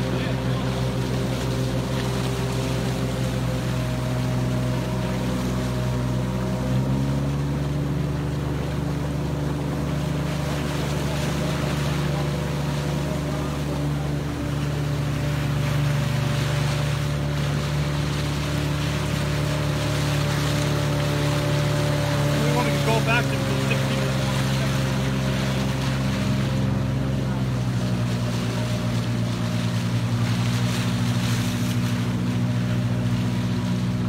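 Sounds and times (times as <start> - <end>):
outboard motor running: 0.0 - 34.0
water rushing past: 0.0 - 34.0.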